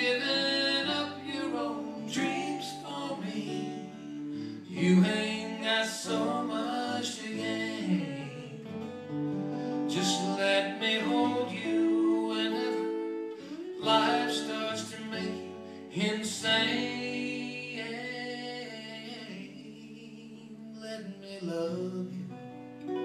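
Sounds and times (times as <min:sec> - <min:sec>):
lead guitar playing held notes: 0:00.0 - 0:18.4, 0:22.5 - 0:23.0
strummed acoustic guitar: 0:00.0 - 0:23.0.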